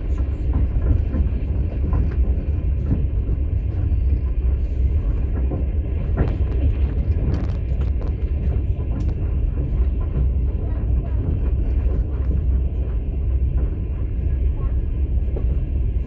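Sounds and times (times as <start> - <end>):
moving train rumble: 0.0 - 16.0.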